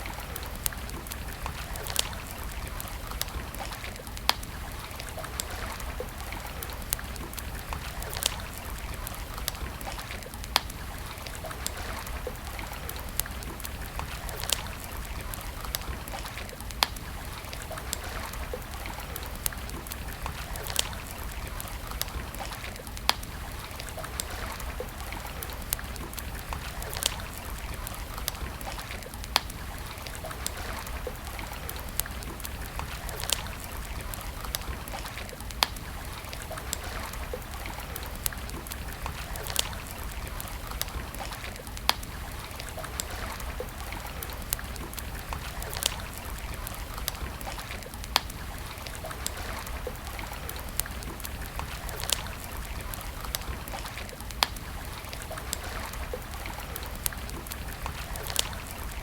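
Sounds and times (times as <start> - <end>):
campfire crackling and popping: 0.0 - 59.0
flowing water: 0.0 - 59.0.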